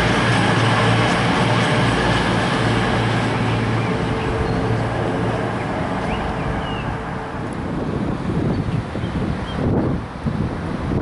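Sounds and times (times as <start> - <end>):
diesel train engine hum: 0.0 - 11.0.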